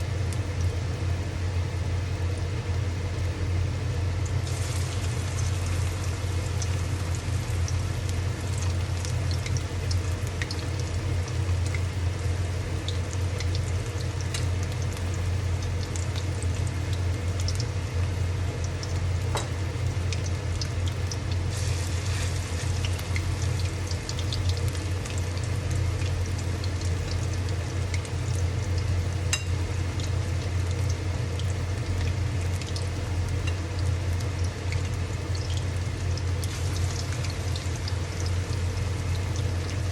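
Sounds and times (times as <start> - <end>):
oil sizzling in a pan: 0.0 - 39.9.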